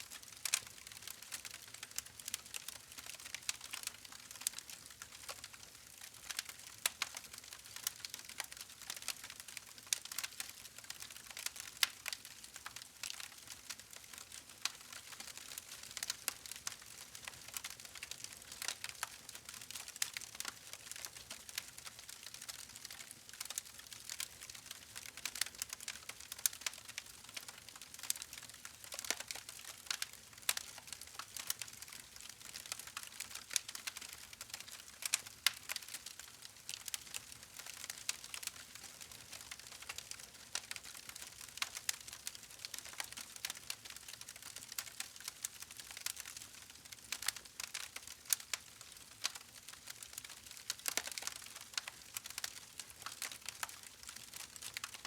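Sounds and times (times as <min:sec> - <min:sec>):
campfire crackling and popping: 0:00.1 - 0:55.0.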